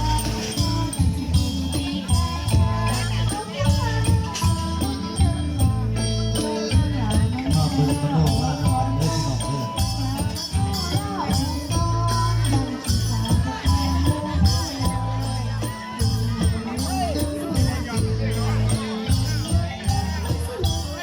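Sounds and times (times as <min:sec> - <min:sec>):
jingling small percussion: 0:00.0 - 0:21.0
low drum beats: 0:00.0 - 0:21.0.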